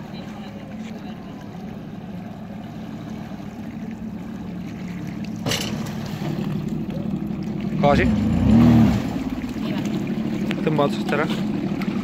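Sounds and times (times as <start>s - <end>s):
jet ski engine droning: 0.0s - 12.0s
water washing around hull: 0.0s - 12.0s.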